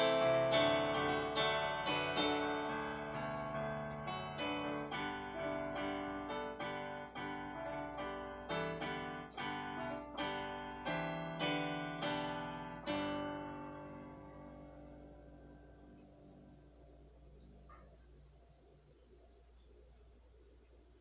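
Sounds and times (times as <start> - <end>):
digital piano chords: 0.0 - 19.3.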